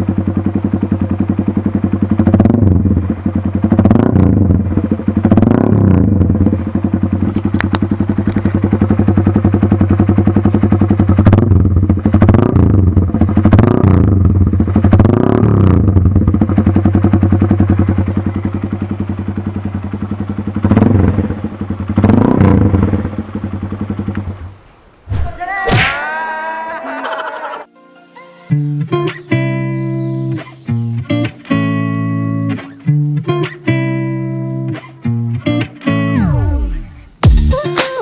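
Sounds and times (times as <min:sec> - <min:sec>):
motorcycle engine idling and revving: 0:00.0 - 0:24.6, 0:28.6 - 0:36.2, 0:37.2 - 0:37.6.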